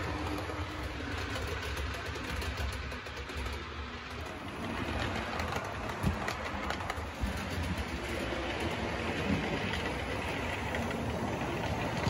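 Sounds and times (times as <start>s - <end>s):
model train motor and wheels rumbling: 0.0s - 12.0s.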